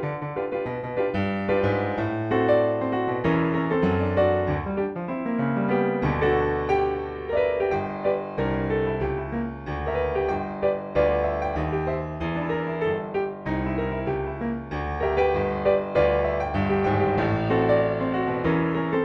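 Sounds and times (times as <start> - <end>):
solo piano blues: 0.0 - 19.0.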